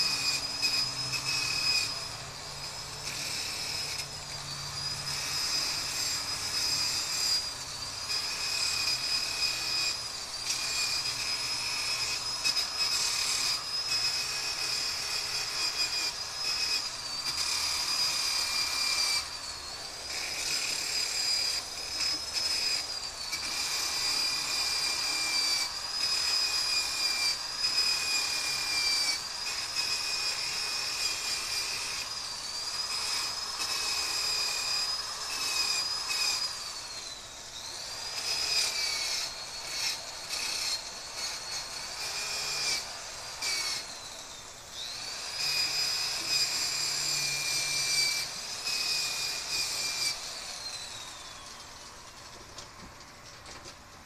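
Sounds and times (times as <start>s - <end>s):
drill grinding steel: 0.0s - 53.5s.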